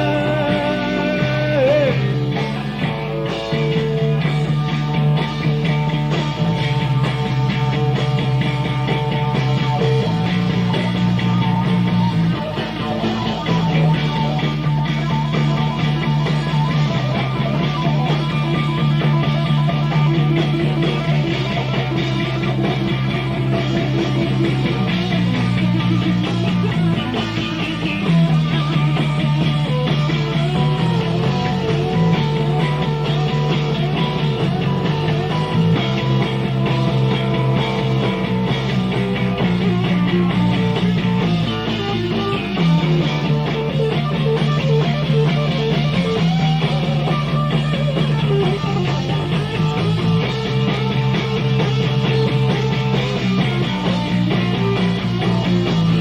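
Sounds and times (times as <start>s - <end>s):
bass line: 0.0s - 56.0s
electric guitar: 0.0s - 56.0s.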